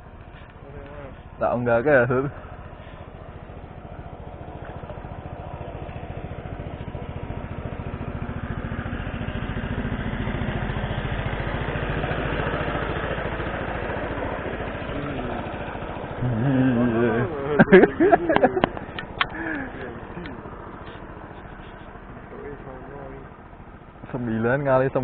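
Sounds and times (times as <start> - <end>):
boat engine chugging: 0.0 - 25.0.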